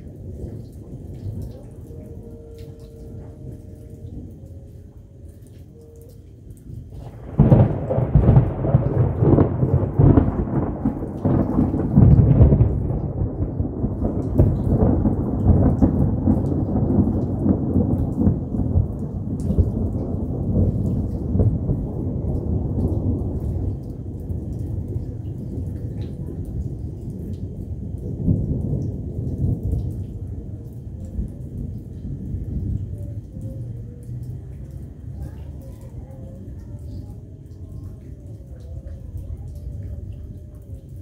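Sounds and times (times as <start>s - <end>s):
steady rain: 0.0s - 41.0s
thunder rumbling: 0.0s - 41.0s.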